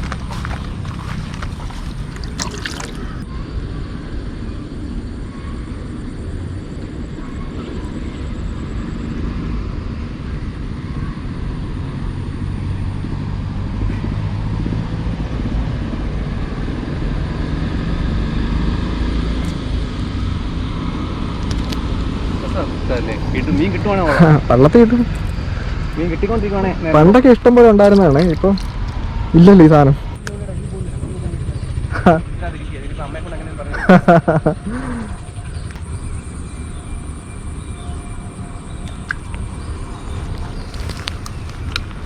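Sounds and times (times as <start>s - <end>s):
low engine drone: 0.0s - 42.0s.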